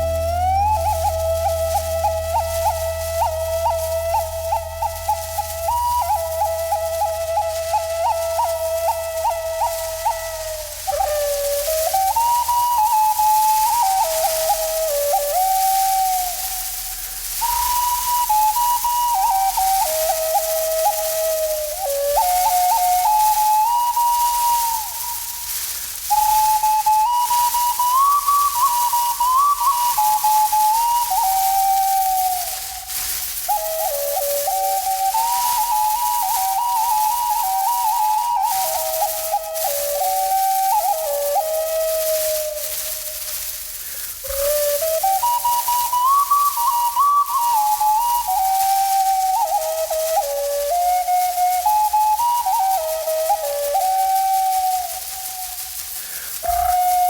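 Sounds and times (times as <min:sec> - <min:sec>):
whistled melody: 0:00.0 - 0:57.0.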